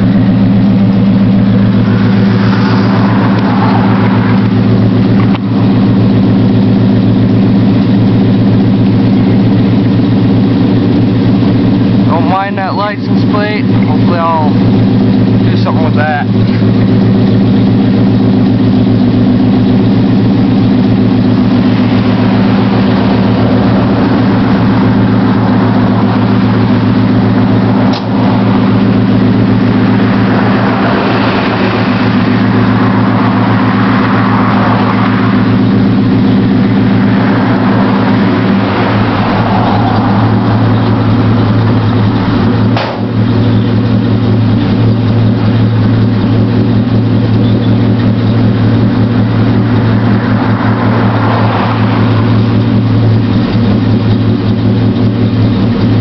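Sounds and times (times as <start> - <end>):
pickup engine idling: 0.0 - 56.0.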